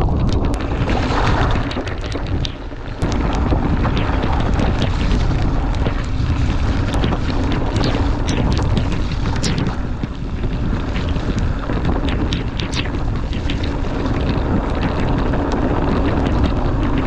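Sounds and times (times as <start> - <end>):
mountain bike rattling: 0.0 - 17.0
wind buffeting microphone: 0.0 - 17.0.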